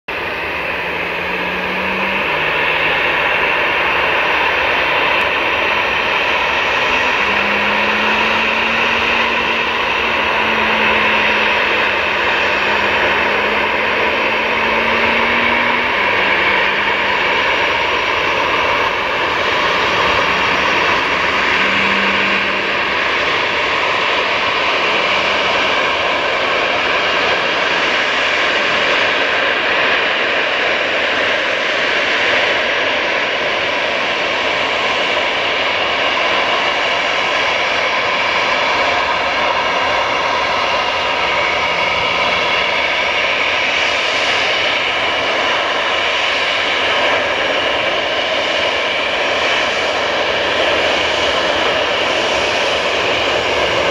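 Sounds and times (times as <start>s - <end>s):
jet engines whining: 0.1s - 53.9s.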